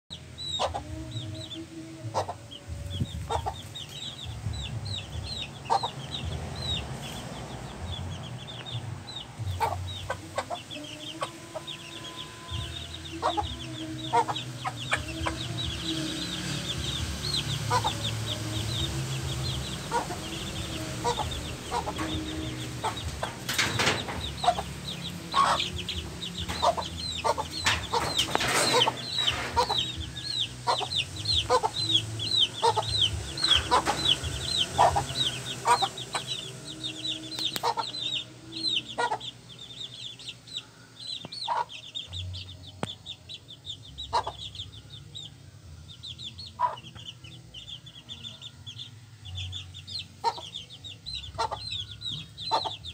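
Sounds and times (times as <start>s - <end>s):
chicks peeping: 0.1s - 52.9s
hen clucking: 0.4s - 40.5s, 41.1s - 43.0s, 44.0s - 44.7s, 46.5s - 47.7s, 49.4s - 52.9s.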